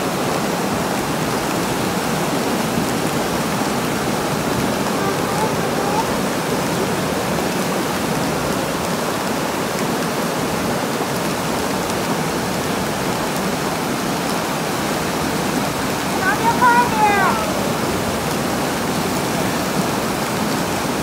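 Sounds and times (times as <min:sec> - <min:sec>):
muddy water rushing: 0:00.0 - 0:21.0.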